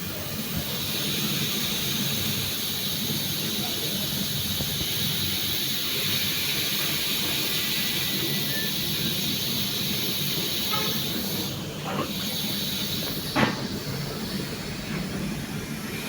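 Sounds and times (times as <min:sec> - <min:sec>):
coffee machine steam wand hissing: 0:00.1 - 0:16.0.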